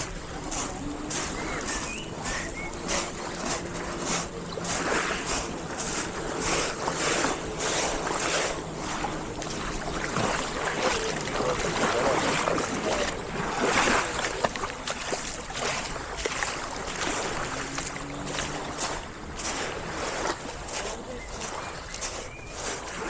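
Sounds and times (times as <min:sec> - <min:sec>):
sea waves washing onto shore: 0:00.0 - 0:23.0
wind buffeting microphone: 0:00.0 - 0:23.0.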